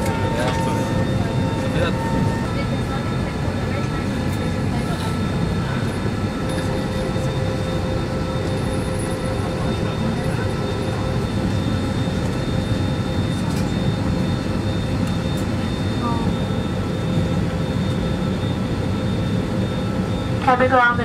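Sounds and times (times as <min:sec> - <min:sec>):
aircraft cabin ventilation hum: 0:00.0 - 0:21.0
faint whining tones: 0:00.0 - 0:21.0.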